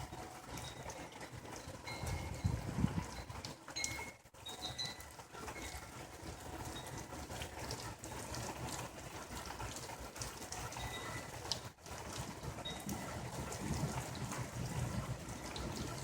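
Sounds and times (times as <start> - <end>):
hail and rain pattering: 0.0 - 16.0.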